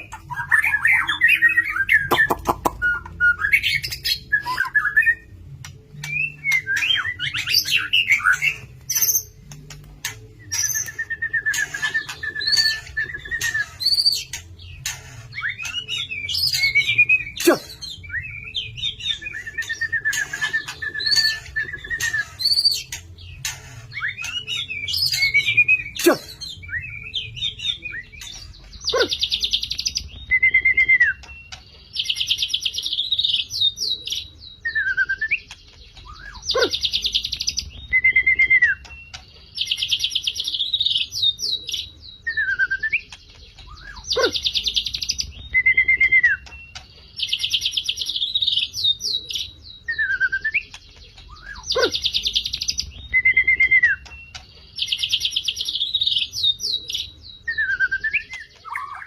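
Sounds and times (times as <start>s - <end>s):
bird singing whistles and chirps: 0.0s - 59.0s.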